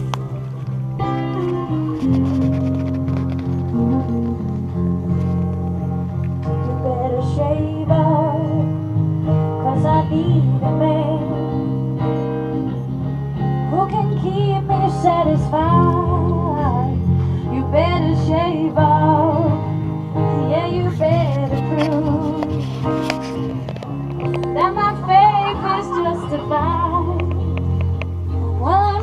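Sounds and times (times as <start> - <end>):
acoustic guitar: 0.0 - 29.0
bass line: 0.0 - 29.0.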